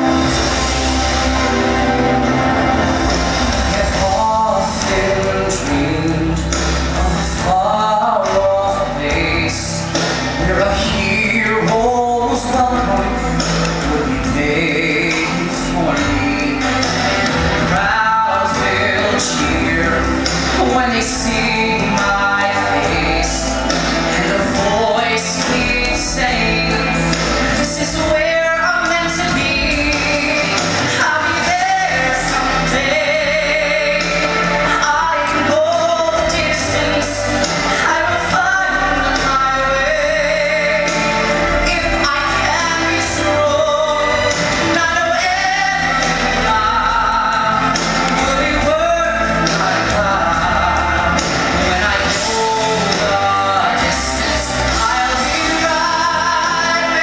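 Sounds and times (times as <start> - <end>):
amplified instrumental accompaniment: 0.0 - 57.0
person singing pop song: 0.0 - 57.0.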